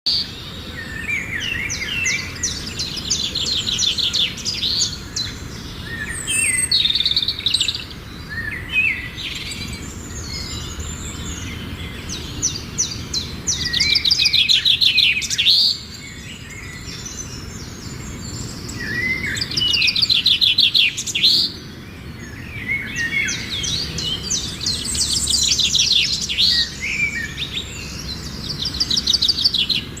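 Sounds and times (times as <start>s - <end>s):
songbirds singing trills: 0.1s - 30.0s.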